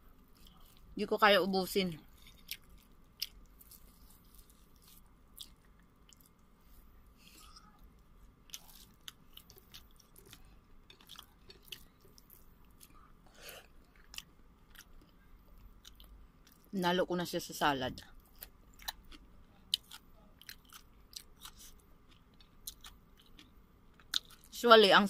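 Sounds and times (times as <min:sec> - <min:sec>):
faint chewing and mouth clicks: 0:00.1 - 0:01.0, 0:02.0 - 0:16.7, 0:18.0 - 0:24.6.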